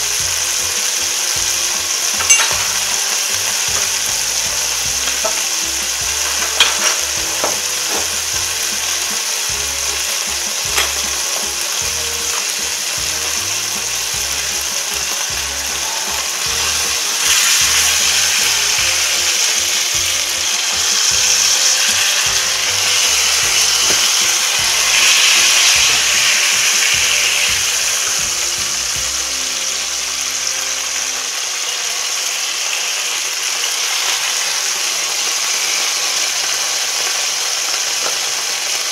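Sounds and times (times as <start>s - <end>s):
meat sizzling in a pan: 0.0s - 38.9s.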